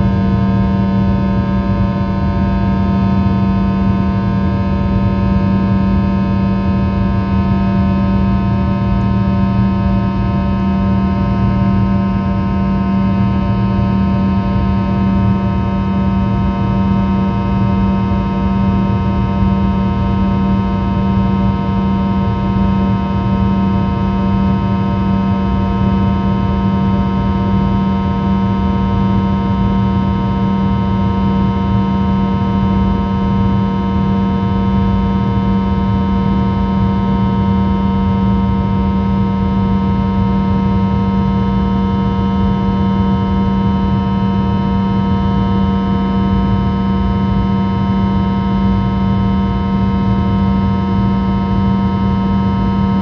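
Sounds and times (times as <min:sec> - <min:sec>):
jet engine drone in cabin: 0:00.0 - 0:53.0.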